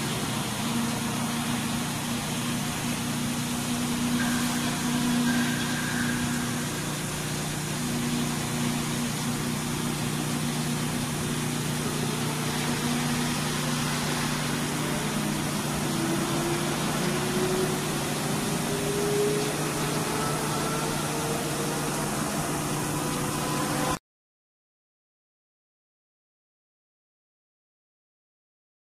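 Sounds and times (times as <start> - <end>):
grinding machine hum and hiss: 0.0 - 24.0
rising machine whine: 0.0 - 24.0.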